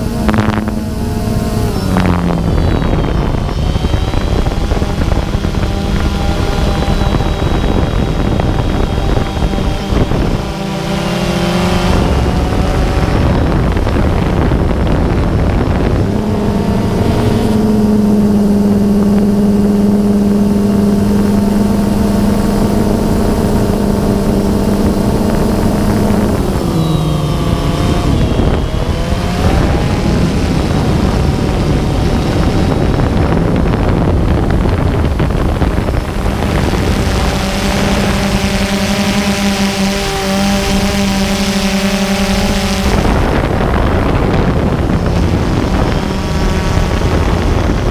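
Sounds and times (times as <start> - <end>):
drone propellers humming: 0.0 - 47.9
wind noise: 0.0 - 47.9.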